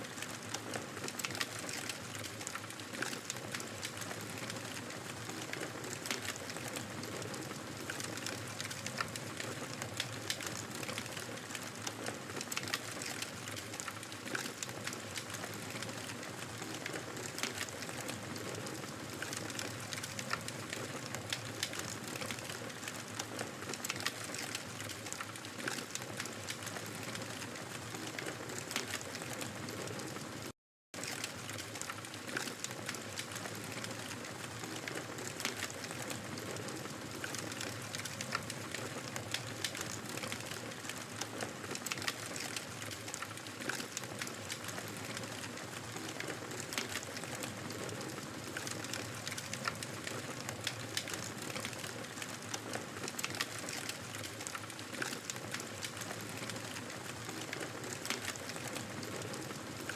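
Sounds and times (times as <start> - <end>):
wood fire crackling and popping: 0.1 - 59.9.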